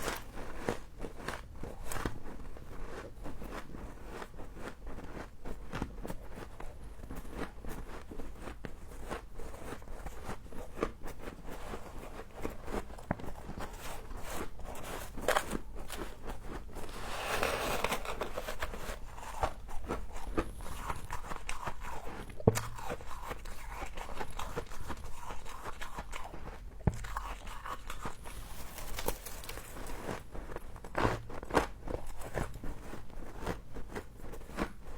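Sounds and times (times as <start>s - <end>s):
frost being chewed and crunched: 0.0s - 34.9s.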